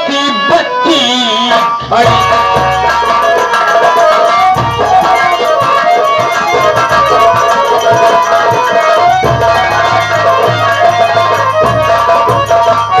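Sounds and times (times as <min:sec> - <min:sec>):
keyboard melody: 0:00.0 - 0:13.0
hand drums beating: 0:01.5 - 0:13.0.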